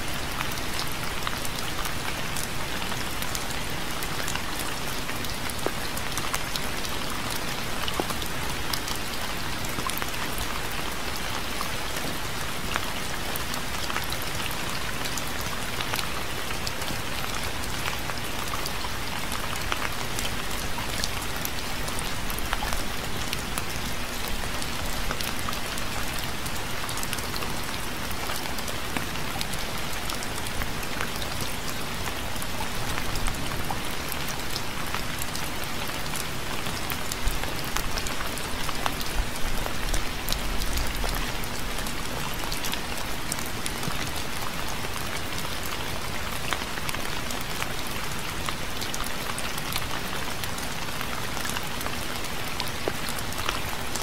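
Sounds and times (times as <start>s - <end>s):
raindrops pattering on a surface: 0.0s - 54.0s
steady rainfall: 0.0s - 54.0s.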